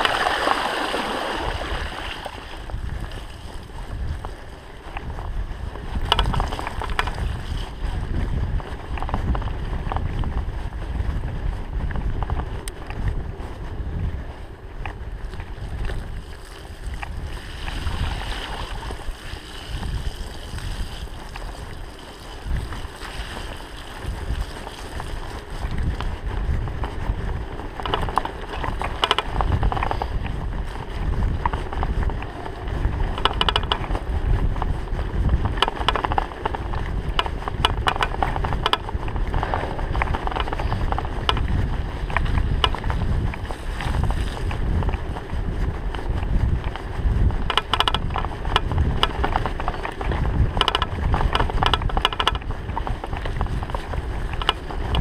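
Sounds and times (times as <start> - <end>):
bike rattling over bumps: 0.0 - 55.0
bike tyres on dirt road: 0.0 - 55.0
wind buffeting microphone: 0.0 - 55.0.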